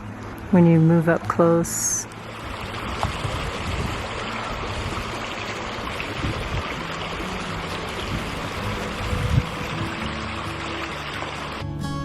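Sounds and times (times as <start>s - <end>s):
stream rushing and trickling: 1.6s - 11.8s.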